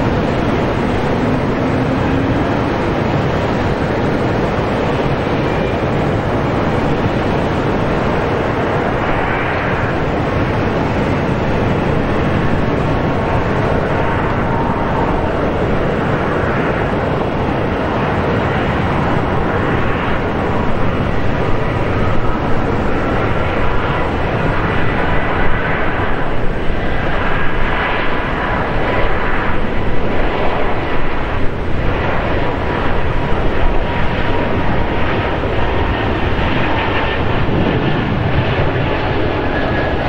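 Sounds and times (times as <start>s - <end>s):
jet engine noise: 0.0s - 40.0s.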